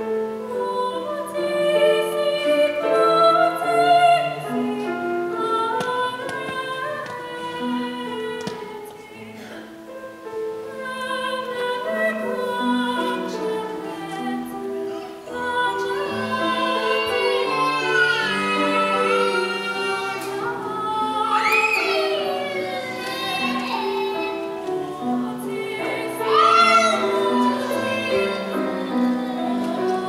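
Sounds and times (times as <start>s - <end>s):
grand piano: 0.0s - 30.0s
soprano singing opera: 0.0s - 30.0s.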